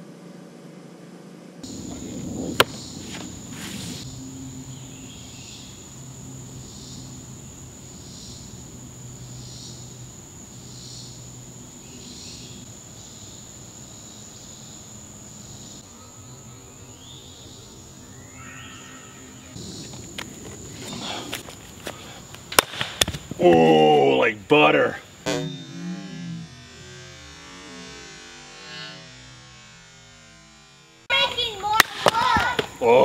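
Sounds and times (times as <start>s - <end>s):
insects chirping: 1.6s - 29.7s, 30.3s - 33.0s.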